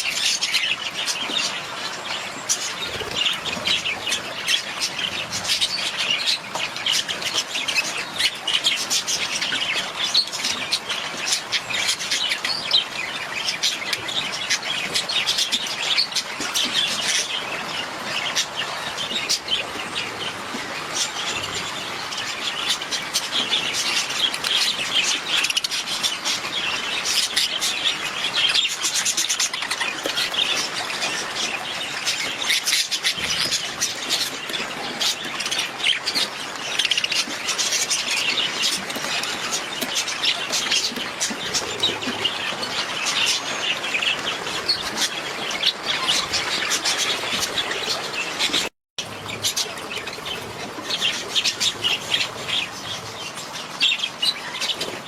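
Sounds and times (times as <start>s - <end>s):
budgies chattering and chirping: 0.0s - 55.0s.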